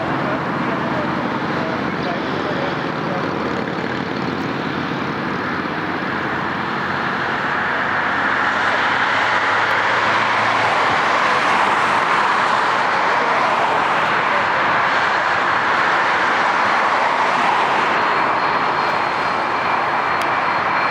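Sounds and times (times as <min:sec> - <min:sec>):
jet engines running: 0:00.0 - 0:20.9.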